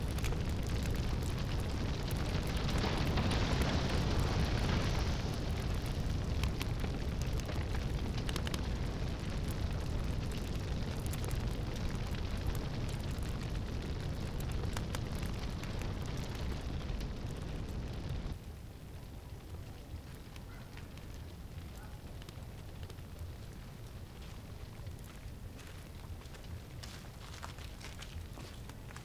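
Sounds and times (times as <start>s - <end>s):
fire crackling and popping: 0.0s - 29.0s
fire roaring: 0.0s - 29.0s.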